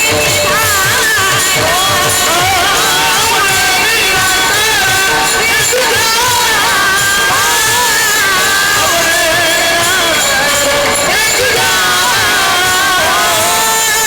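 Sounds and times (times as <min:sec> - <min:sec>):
instrumental accompaniment with beat: 0:00.0 - 0:14.0
woman singing devotional melody: 0:00.0 - 0:14.0.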